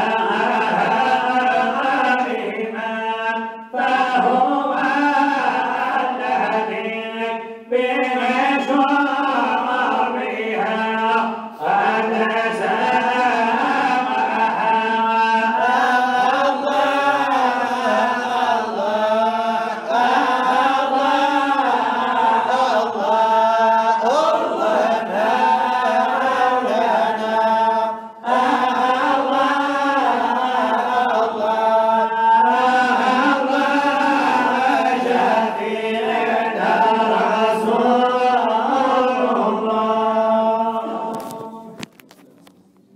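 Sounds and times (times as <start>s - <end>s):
man chanting unaccompanied: 0.0s - 41.7s.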